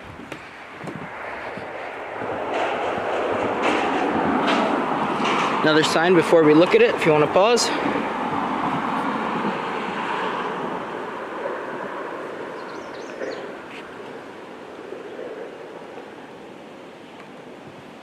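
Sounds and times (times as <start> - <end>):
vehicle tyres rushing on highway: 0.0 - 18.0.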